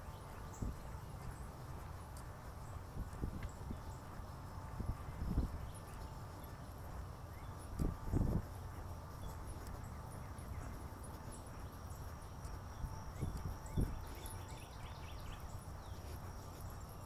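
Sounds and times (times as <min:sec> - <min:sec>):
sneaker footsteps on asphalt: 0:00.0 - 0:17.0
steady low rumble: 0:00.0 - 0:17.0.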